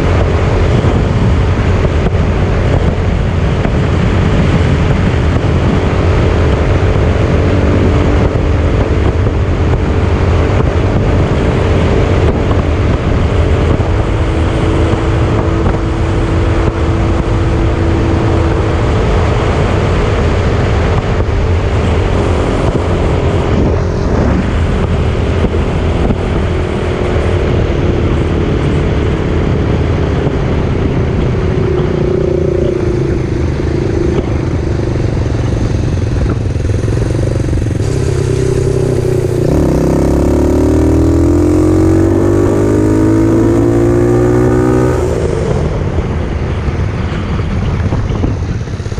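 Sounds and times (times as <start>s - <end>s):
heavy wind noise: 0.0s - 48.9s.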